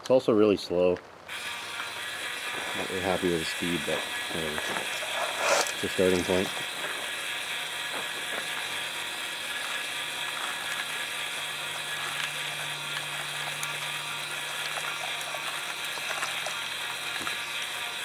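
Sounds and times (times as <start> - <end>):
gearbox motor whirring: 1.3 - 18.0
low motor hum: 1.3 - 18.0.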